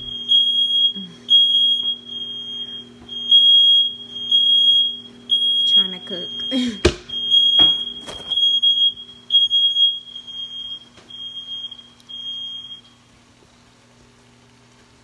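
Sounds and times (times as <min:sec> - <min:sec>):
smoke alarm beeping: 0:00.0 - 0:13.1.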